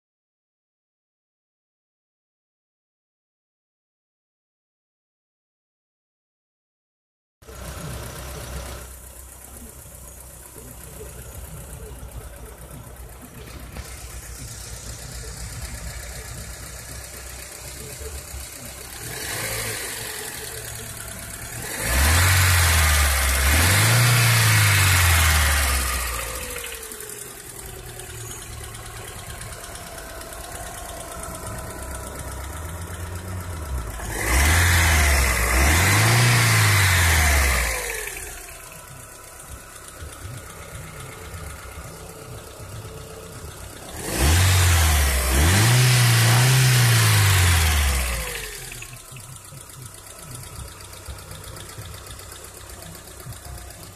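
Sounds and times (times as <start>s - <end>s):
car engine idling and revving: 7.4s - 53.9s.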